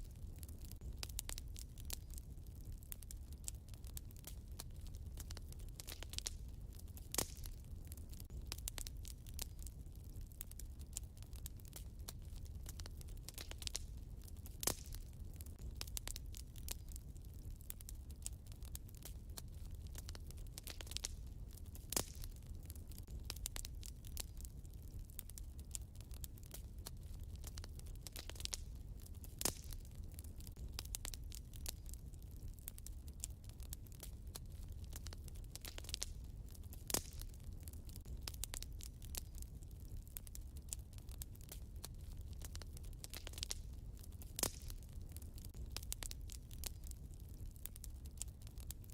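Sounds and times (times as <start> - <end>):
low rumble of flames: 0.0 - 48.9
wood fire crackling: 0.0 - 48.9.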